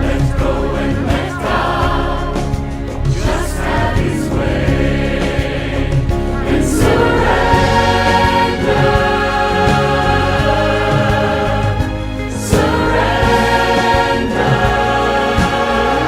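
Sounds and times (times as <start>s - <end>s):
instrumental backing with bass: 0.0s - 16.0s
voices singing together: 0.0s - 16.0s.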